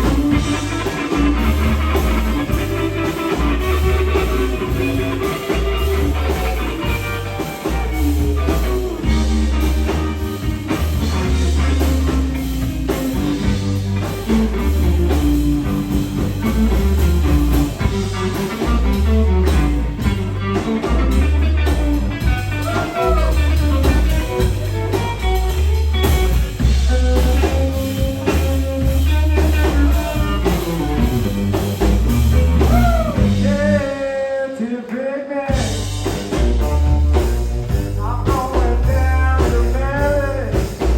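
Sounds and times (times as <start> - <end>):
electric guitar bending notes: 0.0 - 34.0
bass and drum groove: 0.0 - 34.1, 35.5 - 40.9.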